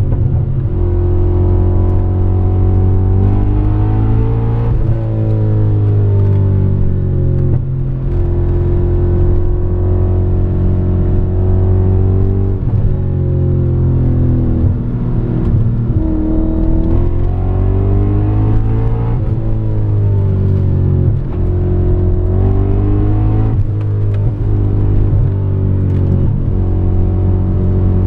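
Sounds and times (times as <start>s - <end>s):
car engine running under load: 0.0s - 28.0s.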